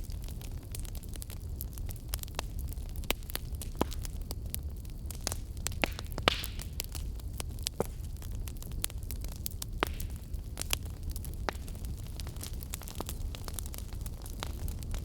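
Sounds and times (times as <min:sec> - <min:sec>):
fire hiss: 0:00.0 - 0:15.0
wood fire crackling and popping: 0:00.0 - 0:15.0.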